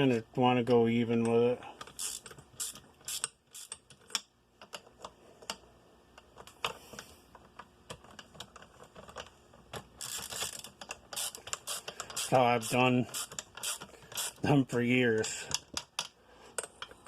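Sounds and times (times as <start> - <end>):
bolts clicking while tightened: 0.7 - 6.8, 7.4 - 14.5, 15.2 - 17.0.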